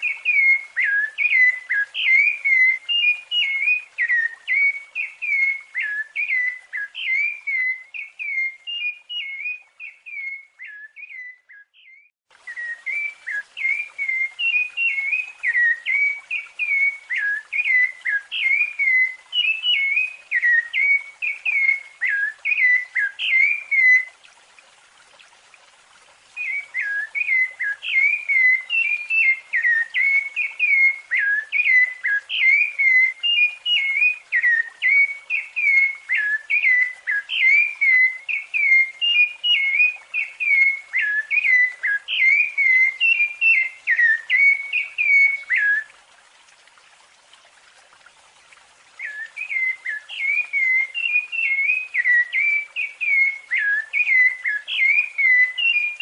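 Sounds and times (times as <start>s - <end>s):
thrush singing whistled notes: 0.0s - 24.2s, 26.3s - 46.0s, 49.0s - 56.0s.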